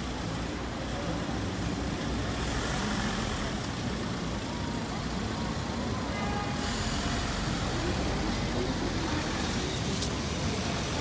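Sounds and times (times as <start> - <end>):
traffic: 0.0 - 11.0
tram running on wet rails: 0.0 - 11.0.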